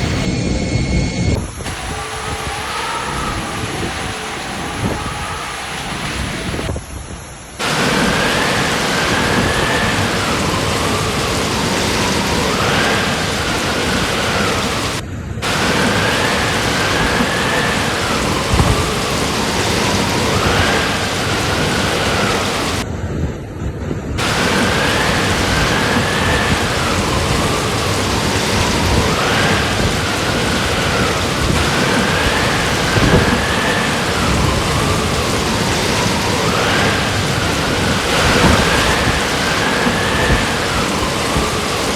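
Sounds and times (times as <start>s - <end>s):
heavy rain pouring: 0.0s - 0.3s, 1.6s - 6.7s, 7.5s - 22.9s, 24.2s - 41.9s.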